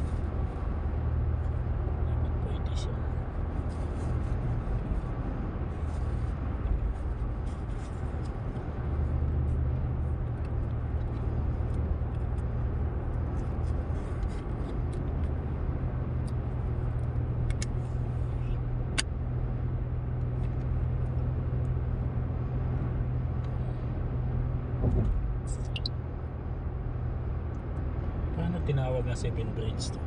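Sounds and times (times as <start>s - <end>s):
road and engine rumble in car: 0.0s - 30.0s.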